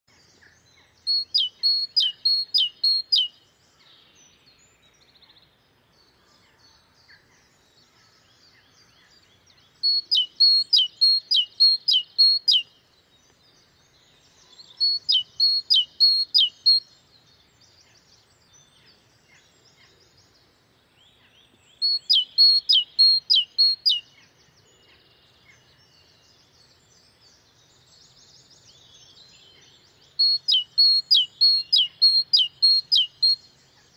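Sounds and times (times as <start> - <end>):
great tit singing: 0.1 - 33.9
soft bird twittering: 0.1 - 33.9.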